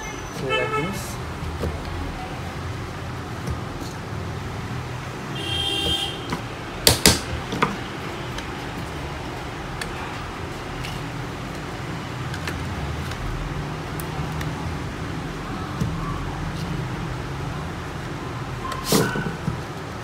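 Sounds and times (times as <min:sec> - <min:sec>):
low traffic hum: 0:00.0 - 0:20.0.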